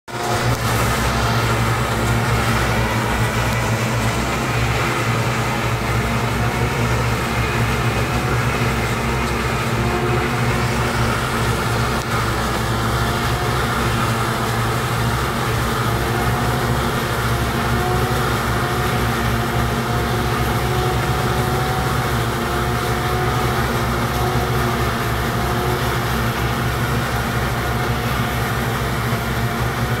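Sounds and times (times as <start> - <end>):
harvester machine hum: 0.1 - 30.0.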